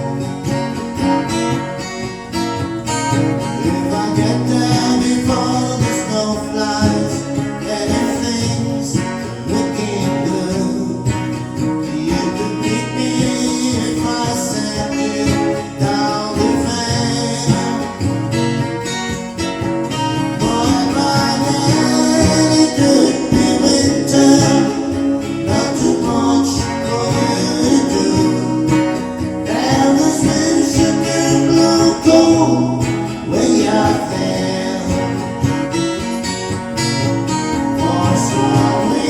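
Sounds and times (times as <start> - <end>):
acoustic guitar: 0.0 - 39.0
person singing country-folk song: 0.0 - 39.0.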